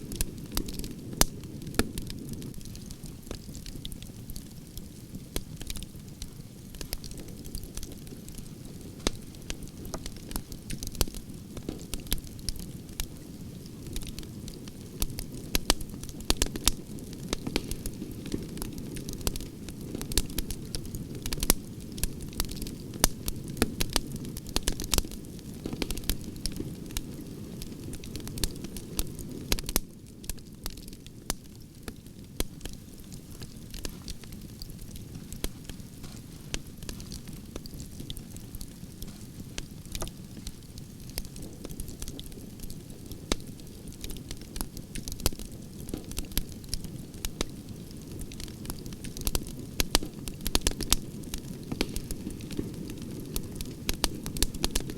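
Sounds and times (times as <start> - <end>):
burning logs popping and crackling: 0.0 - 54.9
fire rumbling: 0.0 - 54.9.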